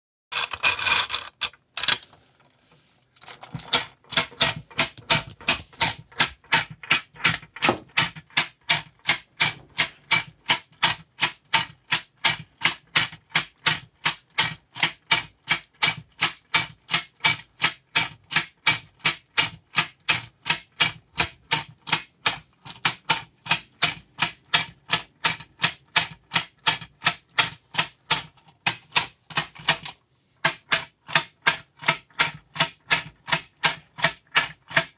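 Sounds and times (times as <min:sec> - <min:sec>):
clockwork tin toy clicking: 0:03.7 - 0:34.9.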